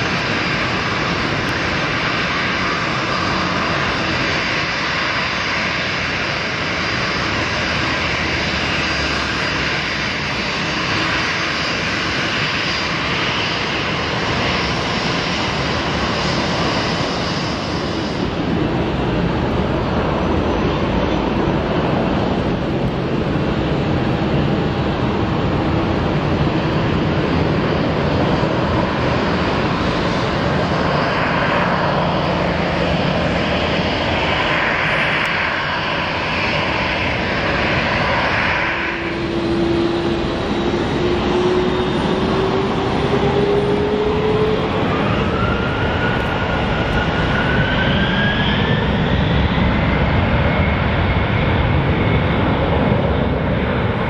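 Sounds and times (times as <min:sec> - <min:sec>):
jet engines running: 0:00.0 - 0:54.0
rising engine whine: 0:00.0 - 0:54.0.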